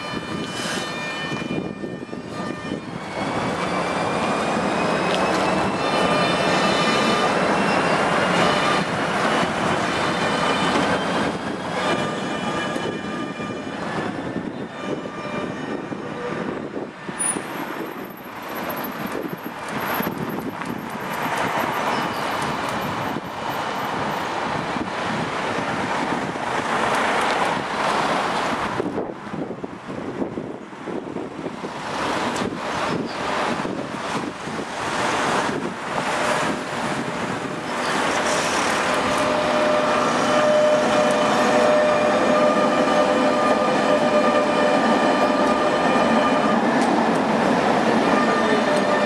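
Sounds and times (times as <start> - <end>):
tram traction drive whining: 0.0 - 24.7, 32.0 - 49.0
street traffic noise: 0.0 - 49.0
wheels rumbling on rail: 0.0 - 49.0.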